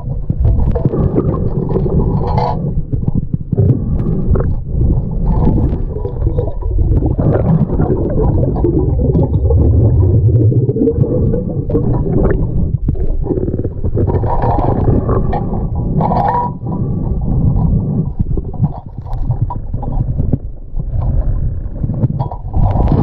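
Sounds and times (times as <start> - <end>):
bubbling: 0.0 - 23.0
small knocks underwater: 0.0 - 23.0
underwater river rumble: 0.0 - 23.0.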